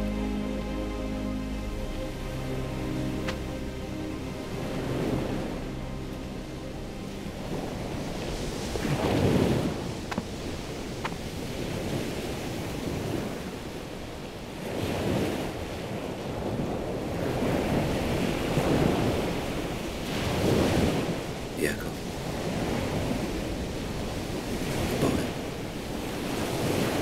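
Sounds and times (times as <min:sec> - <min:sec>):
ocean waves crashing on shore: 0:02.4 - 0:27.0.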